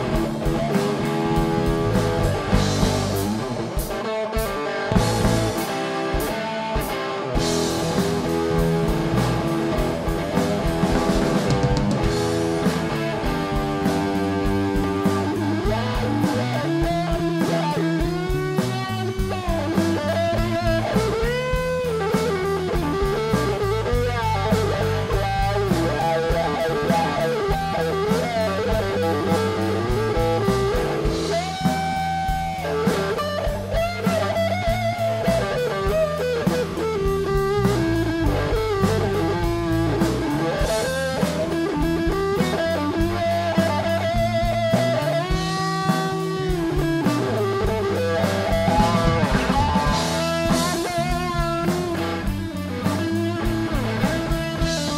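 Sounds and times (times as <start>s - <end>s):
bass guitar: 0.0s - 54.9s
drum kit: 0.0s - 54.9s
electric guitar with bent notes: 0.0s - 54.9s.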